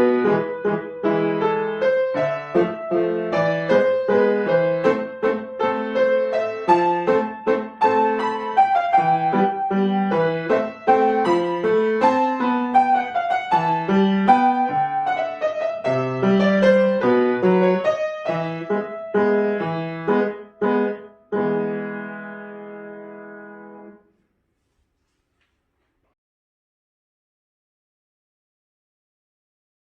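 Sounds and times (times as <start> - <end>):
piano playing: 0.0 - 24.1.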